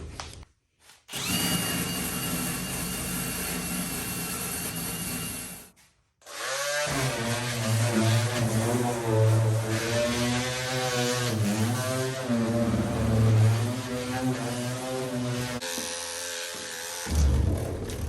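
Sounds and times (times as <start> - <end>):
electric drill with wire brush: 1.1 - 17.3.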